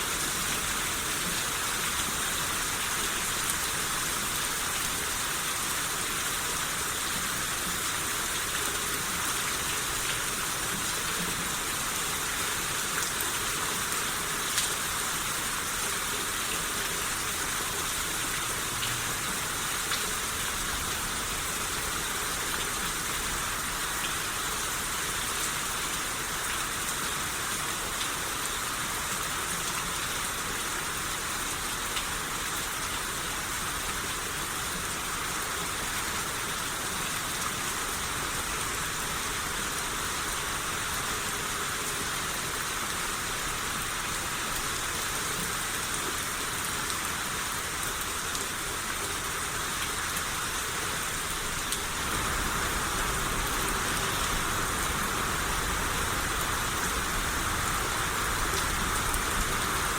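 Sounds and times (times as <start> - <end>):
rain shower hissing: 0.0 - 59.9.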